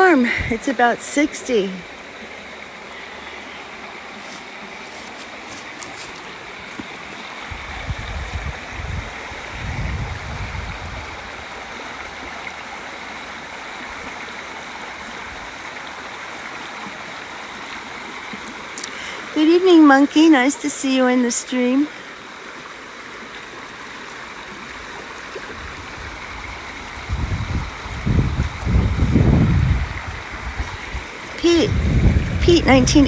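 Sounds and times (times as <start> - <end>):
river water over rocks: 0.0 - 33.0.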